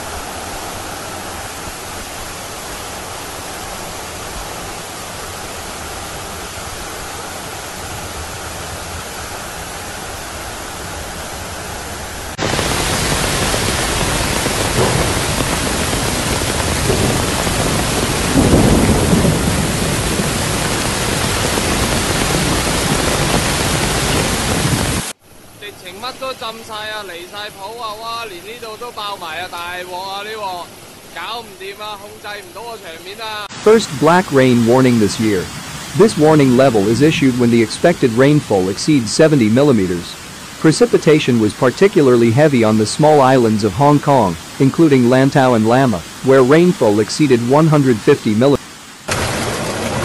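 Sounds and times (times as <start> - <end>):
floodwater rushing over road: 0.0 - 50.0
heavy rain: 0.0 - 50.0.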